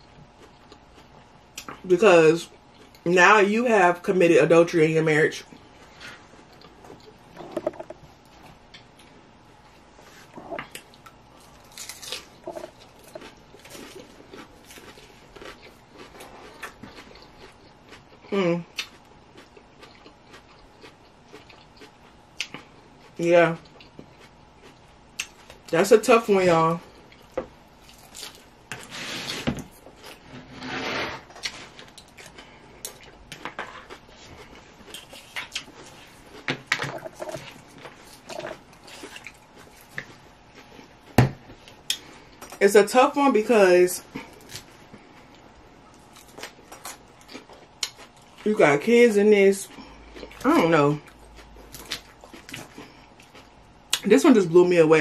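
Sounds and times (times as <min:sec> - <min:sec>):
chewing crisp lettuce: 0:00.0 - 0:03.2, 0:05.3 - 0:30.3, 0:31.2 - 0:42.6, 0:44.0 - 0:48.6, 0:49.6 - 0:54.1.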